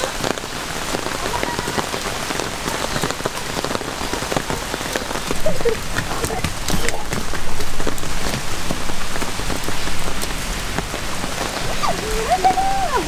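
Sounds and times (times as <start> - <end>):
rain on wooden boardwalk: 0.0 - 13.0.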